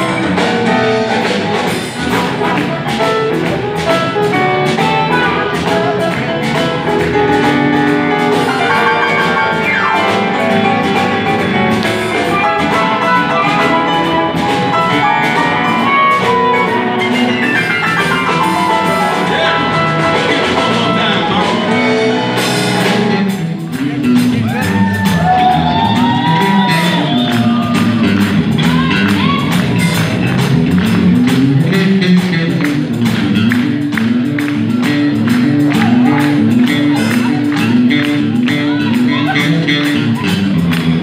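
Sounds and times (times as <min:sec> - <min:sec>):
bouncing bass line: 0:00.0 - 0:41.0
electric blues band playing: 0:00.0 - 0:41.0
pitch-bending lead part: 0:00.0 - 0:41.0.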